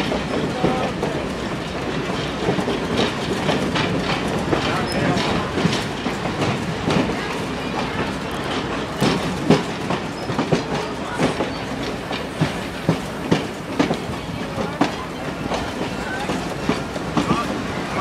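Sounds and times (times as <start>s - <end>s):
train rumble: 0.0s - 18.0s
wheels clacking over rail joints: 0.0s - 18.0s.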